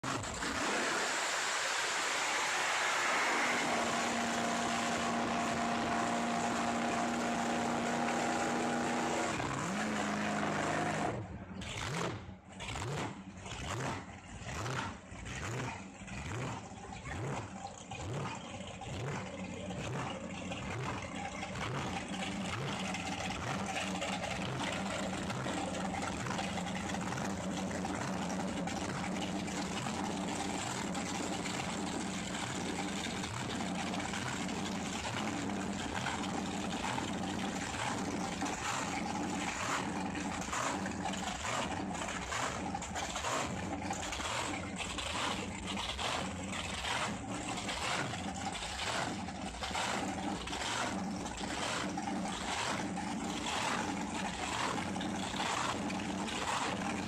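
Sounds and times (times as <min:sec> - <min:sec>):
vehicle engine humming: 0:03.0 - 0:57.0.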